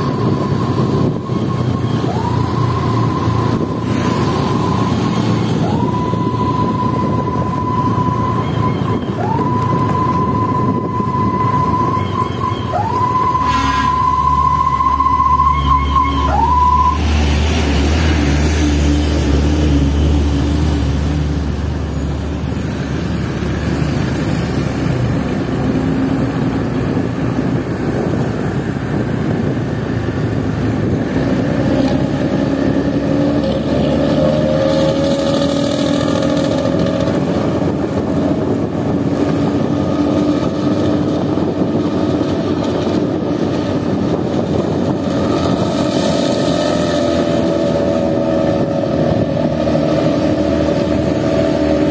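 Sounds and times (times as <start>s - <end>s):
diesel bus engine running: 0.0s - 34.7s, 35.4s - 51.9s
road noise: 0.0s - 51.9s.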